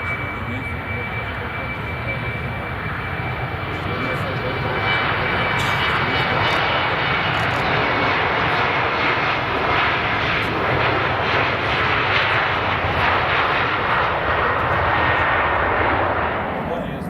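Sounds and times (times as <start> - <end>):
jet engines at takeoff power: 0.0 - 17.0.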